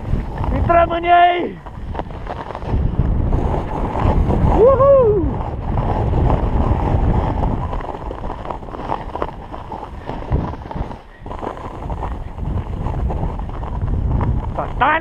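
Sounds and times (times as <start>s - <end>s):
snowboard scraping on snow crust: 0.0s - 15.0s
wind buffeting microphone: 0.0s - 15.0s.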